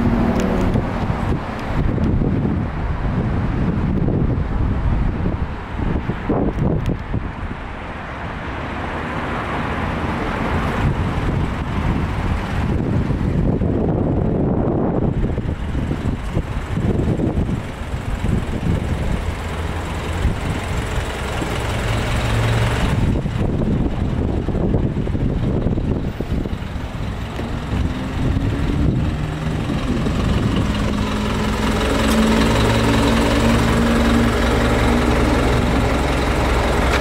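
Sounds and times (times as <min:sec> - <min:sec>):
diesel engine idling: 0:07.3 - 0:37.0.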